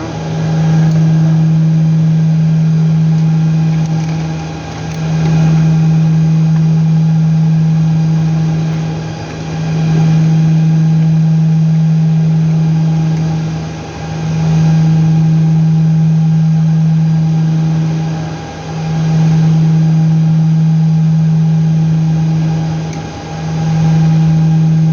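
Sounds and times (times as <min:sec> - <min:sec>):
low machine hum: 0:00.0 - 0:24.9.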